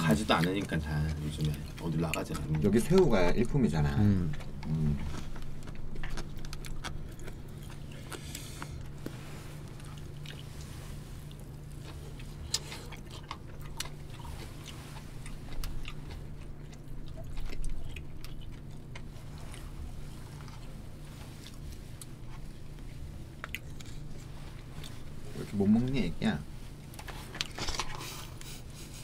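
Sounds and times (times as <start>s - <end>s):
people chewing: 0.0s - 29.0s
steady low hum: 0.0s - 29.0s.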